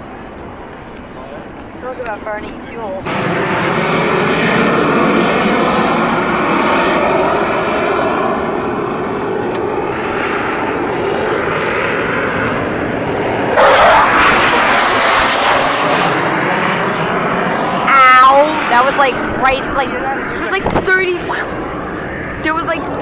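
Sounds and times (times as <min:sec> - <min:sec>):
jet engines roaring: 0:00.0 - 0:23.0
jet passing low overhead: 0:00.0 - 0:23.0.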